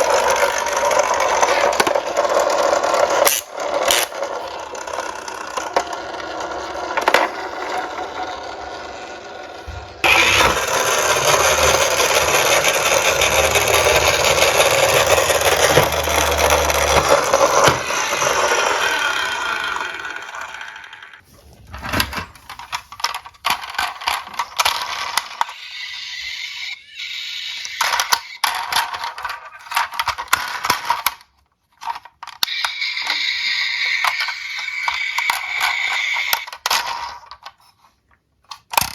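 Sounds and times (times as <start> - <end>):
toy cars rolling on a track: 0.0 - 21.2, 22.0 - 38.9.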